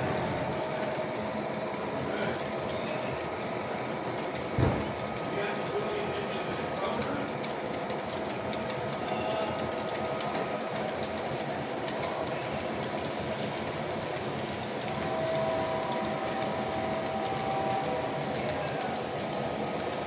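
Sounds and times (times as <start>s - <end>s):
model train wheels rumbling: 0.0s - 20.0s
rapid fine clicking: 0.0s - 20.0s.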